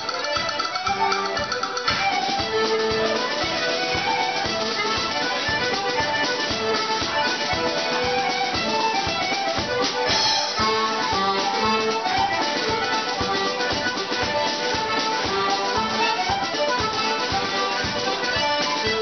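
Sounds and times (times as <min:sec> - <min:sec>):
button accordion: 0:00.0 - 0:19.0
drums steady beat: 0:00.0 - 0:19.0
fiddle melody: 0:00.0 - 0:19.0
flute: 0:00.0 - 0:19.0.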